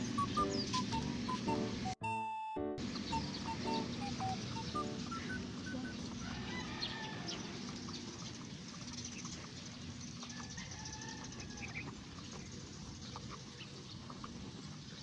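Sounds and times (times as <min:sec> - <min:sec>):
poultry clucking: 0:00.0 - 0:02.0, 0:02.8 - 0:15.0
steady low background noise: 0:00.0 - 0:15.0.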